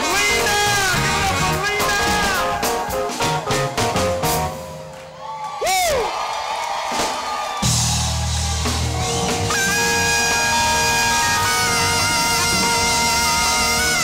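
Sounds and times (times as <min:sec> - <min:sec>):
live band music: 0:00.0 - 0:05.2, 0:06.9 - 0:14.0.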